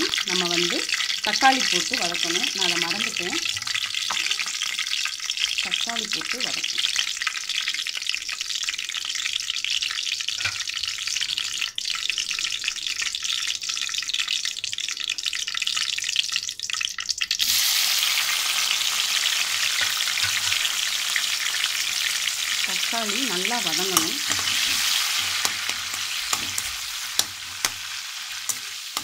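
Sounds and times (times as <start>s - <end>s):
leaves sizzling in hot oil: 0.0s - 29.0s.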